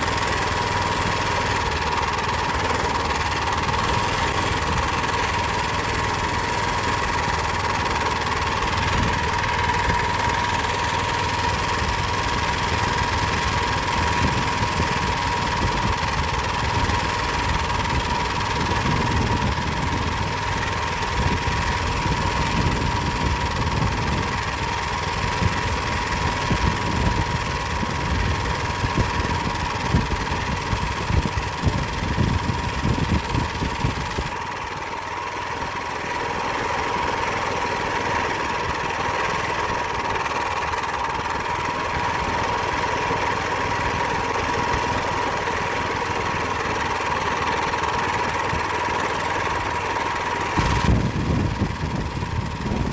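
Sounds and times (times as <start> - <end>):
mini bike engine running: 0.0 - 52.9.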